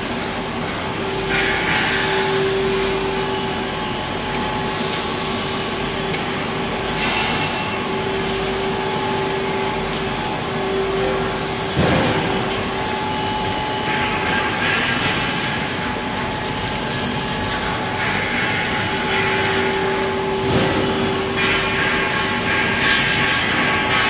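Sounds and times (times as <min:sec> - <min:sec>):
coolant spray hiss: 0:00.0 - 0:24.0.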